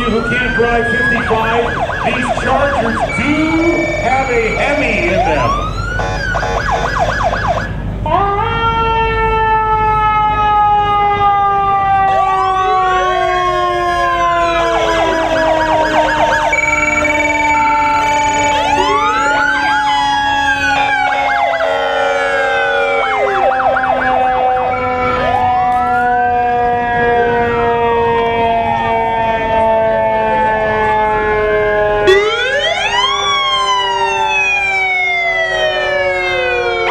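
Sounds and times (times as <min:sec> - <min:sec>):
emergency vehicle sirens: 0:00.0 - 0:36.9
siren blasts: 0:00.0 - 0:36.9.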